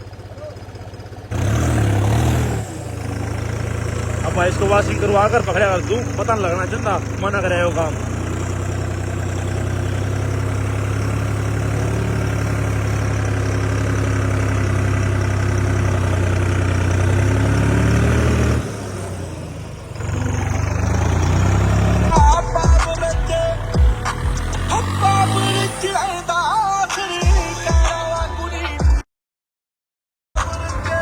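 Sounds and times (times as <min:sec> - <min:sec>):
tractor diesel engine running: 0:00.0 - 0:28.8, 0:30.4 - 0:31.0.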